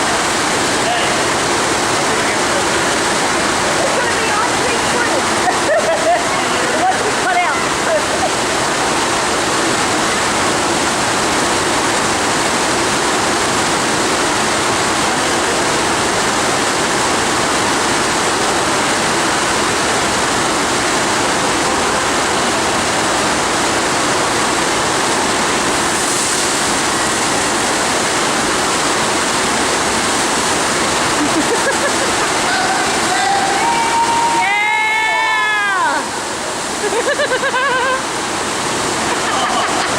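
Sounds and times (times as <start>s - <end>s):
water rushing over surface: 0.0s - 39.9s.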